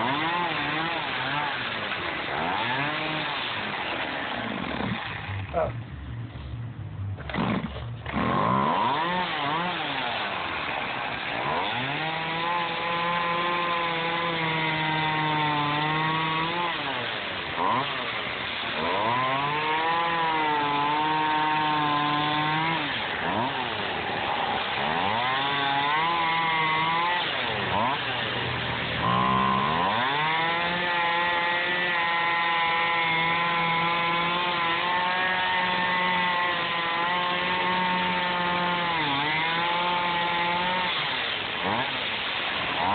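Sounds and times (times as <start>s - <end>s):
chainsaw cutting foam: 0.0s - 5.7s, 7.2s - 42.9s.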